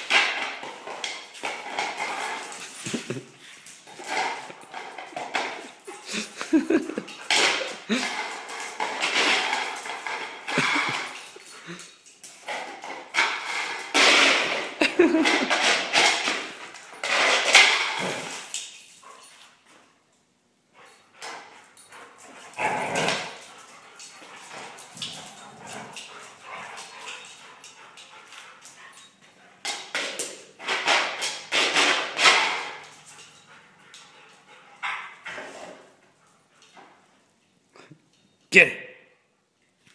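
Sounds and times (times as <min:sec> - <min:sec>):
dog claws scrambling: 0:00.0 - 0:19.4, 0:20.8 - 0:34.1.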